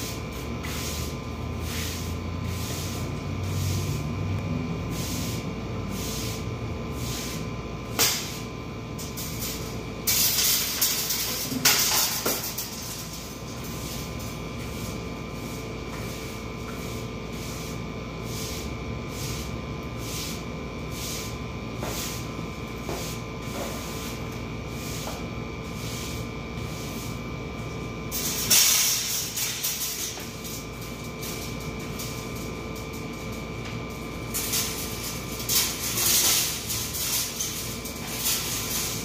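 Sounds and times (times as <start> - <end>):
broom sweeping hard floor: 0.0 - 39.0.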